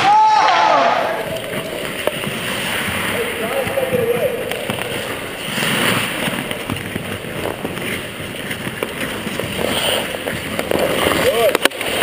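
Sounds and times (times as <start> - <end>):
skate blades scraping ice: 0.3 - 12.0.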